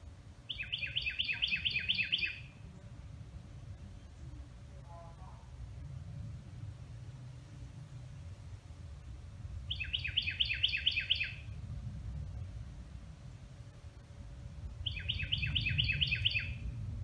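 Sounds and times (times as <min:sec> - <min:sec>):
steady low rumble: 0:00.0 - 0:00.6, 0:02.4 - 0:17.0
songbird singing: 0:00.0 - 0:06.6, 0:07.2 - 0:17.0.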